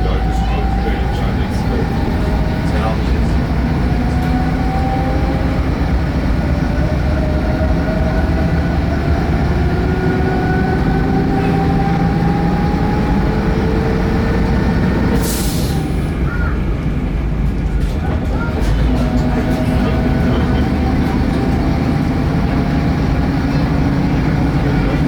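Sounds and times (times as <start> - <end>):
railcar low rumble: 0.0 - 25.0.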